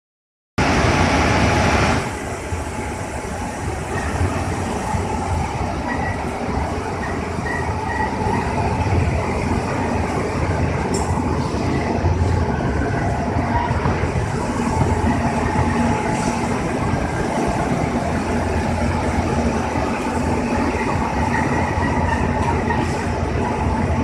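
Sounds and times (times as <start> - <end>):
machine rumbling: 3.6 - 24.0.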